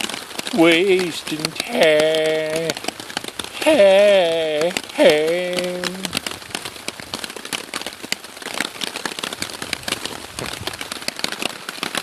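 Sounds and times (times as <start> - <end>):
rain pattering on a tarp: 0.0 - 12.0.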